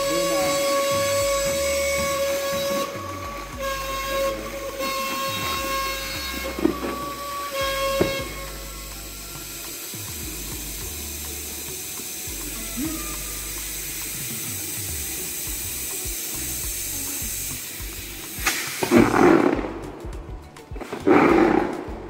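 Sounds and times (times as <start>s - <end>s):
oxygen hissing through a hose: 0.0s - 19.9s
rough bursts of gas: 0.0s - 22.0s.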